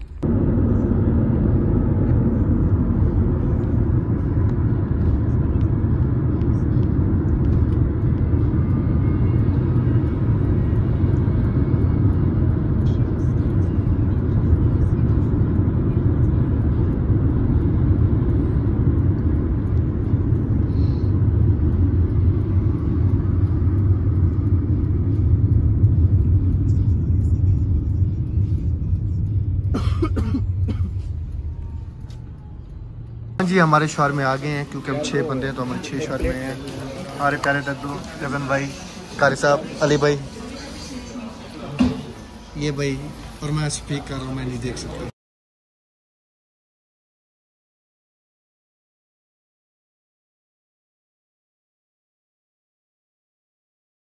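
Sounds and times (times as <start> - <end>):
car cabin road rumble: 0.0 - 45.1.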